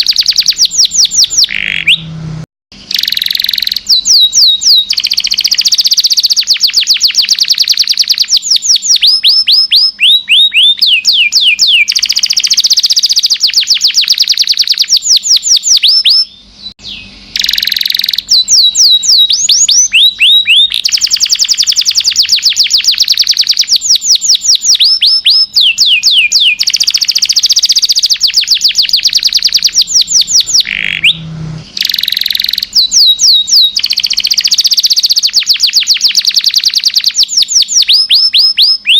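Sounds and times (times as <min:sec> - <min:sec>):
canary singing trills: 0:00.0 - 0:02.2, 0:02.8 - 0:38.9.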